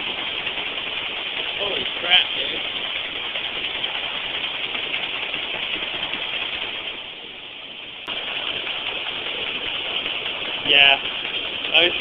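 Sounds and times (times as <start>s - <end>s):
conveyor machinery running: 0.0s - 12.0s.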